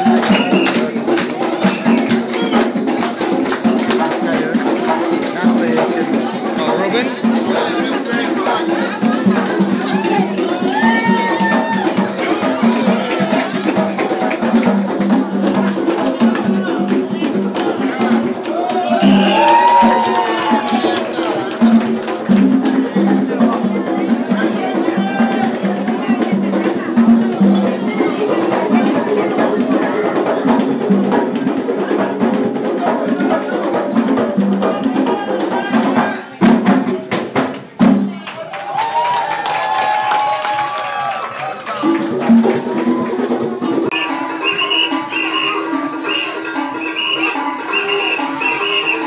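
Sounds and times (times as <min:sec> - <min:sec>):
live drumming and percussion: 0:00.0 - 0:49.0.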